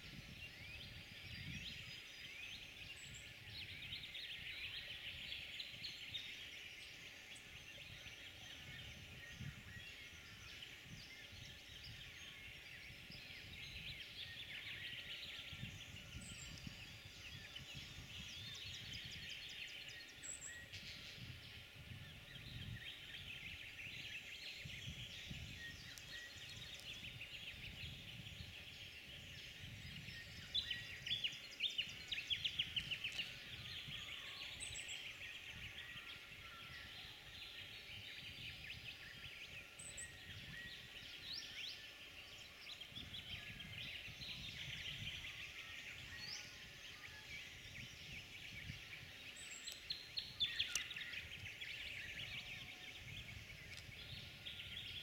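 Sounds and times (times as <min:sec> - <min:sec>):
birds calling and chattering: 0:00.0 - 0:55.0.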